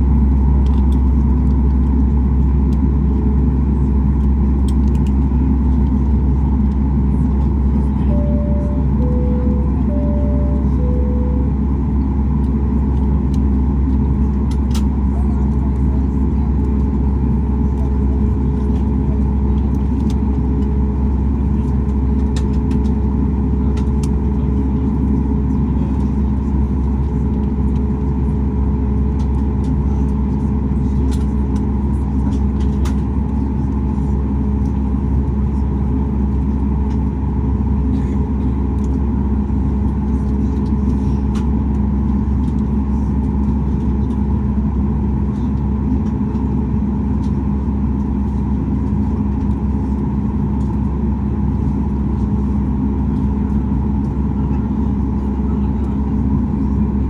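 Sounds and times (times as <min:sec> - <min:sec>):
jet engine rumble in cabin: 0:00.0 - 0:57.0.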